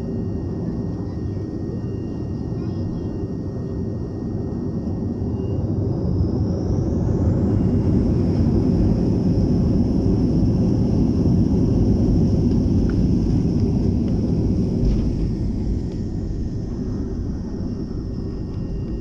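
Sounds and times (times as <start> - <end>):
high steady jet whine: 0.0 - 19.0
jet engines rumbling: 0.0 - 19.0.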